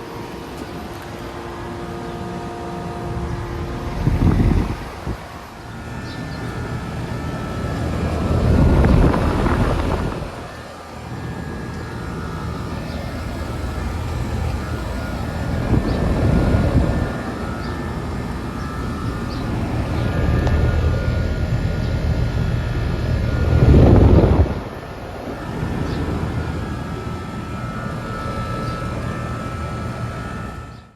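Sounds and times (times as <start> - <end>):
compressor hum: 0.0 - 30.9
condenser fan rushing: 0.0 - 30.9.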